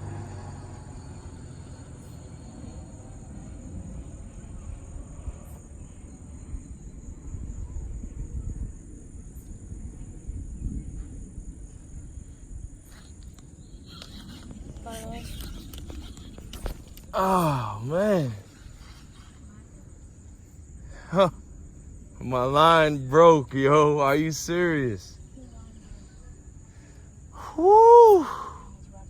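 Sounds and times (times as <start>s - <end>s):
insects trilling: 0.0s - 29.0s
low uneven rumble: 0.0s - 29.0s.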